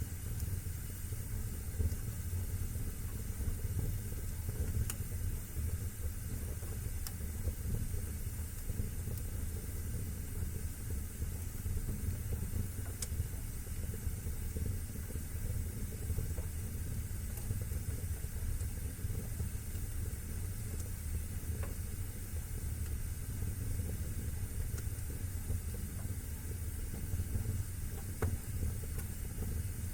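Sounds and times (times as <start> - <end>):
fire crackles: 0.0 - 29.9
wood fire burning: 0.0 - 29.9.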